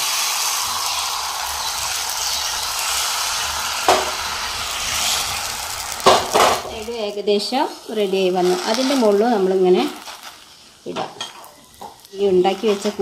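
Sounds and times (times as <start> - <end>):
batter sizzling in a frying pan: 0.0 - 13.0.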